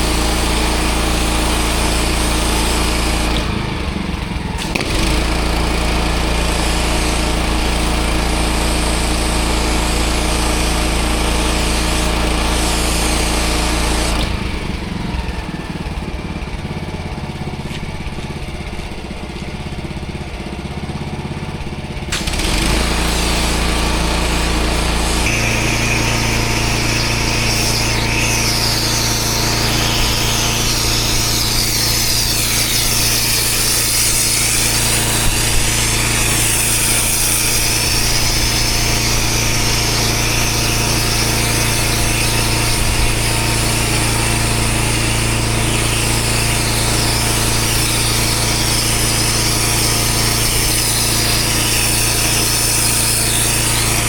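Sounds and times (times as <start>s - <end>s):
water jet hissing on paving: 0.0s - 3.9s, 4.6s - 14.6s, 22.1s - 54.0s
pressure washer engine running: 0.0s - 54.0s.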